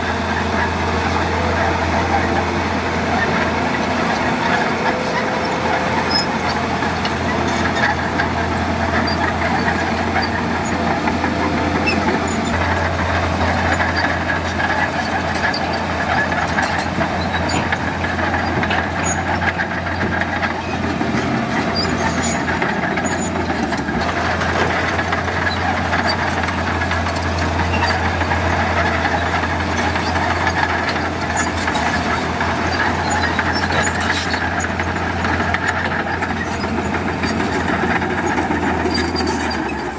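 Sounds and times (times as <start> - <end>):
heavy diesel engine drone: 0.0 - 39.9.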